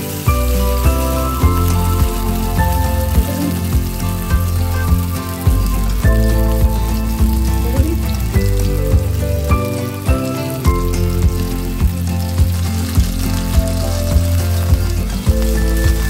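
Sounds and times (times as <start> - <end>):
background music with beat: 0.0 - 16.0
fish sizzling in oil: 0.0 - 16.0.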